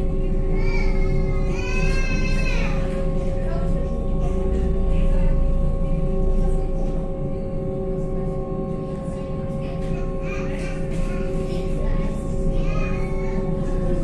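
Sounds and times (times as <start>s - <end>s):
electric tram drive humming: 0.0s - 14.0s
faint murmur of voices: 0.0s - 14.0s
low hull rumble: 0.0s - 14.0s.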